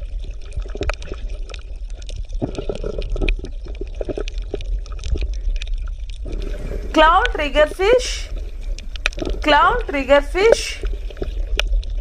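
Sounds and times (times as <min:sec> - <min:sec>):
crackling clicks and pops: 0:00.0 - 0:12.0
underwater bubbling: 0:00.0 - 0:12.0.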